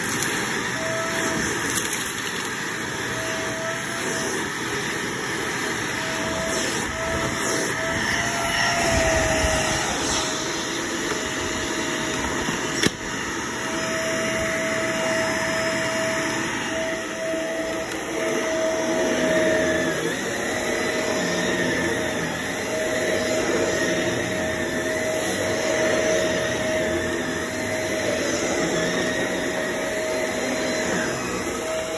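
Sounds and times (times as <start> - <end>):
vacuum cleaner running on carpet: 0.0 - 31.9.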